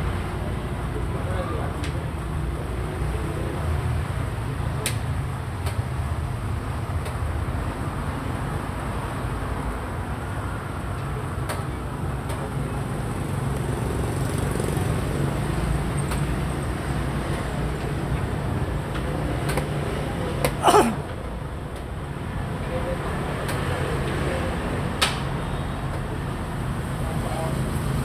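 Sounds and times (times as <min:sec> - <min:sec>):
low rumble of road traffic: 0:00.0 - 0:28.0.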